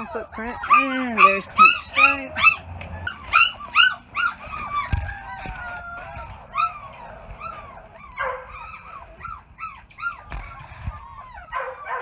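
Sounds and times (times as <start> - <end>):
puppies yelping and whining: 0.0 - 12.0.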